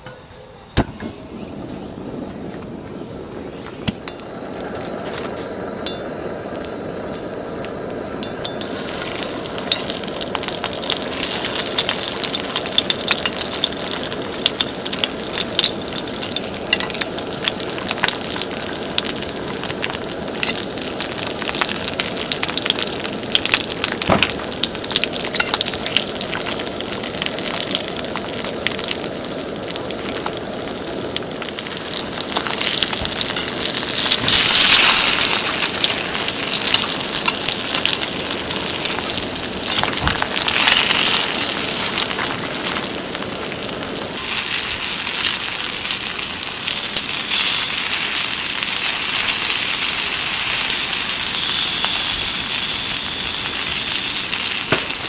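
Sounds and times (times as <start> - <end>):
food sizzling in a pan: 3.6 - 55.0.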